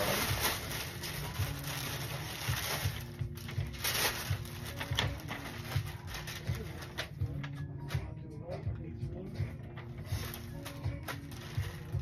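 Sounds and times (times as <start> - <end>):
tissue paper crinkling: 0.0 - 7.5, 9.8 - 12.0.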